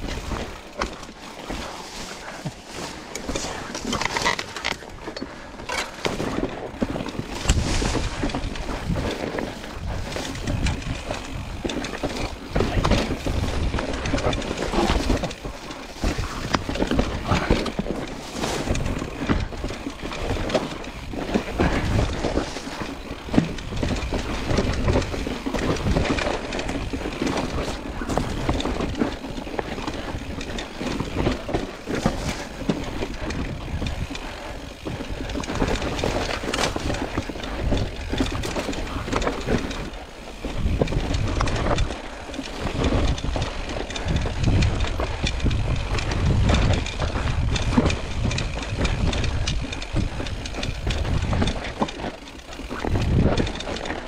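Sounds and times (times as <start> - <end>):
bike clattering over rocks: 0.0 - 54.0.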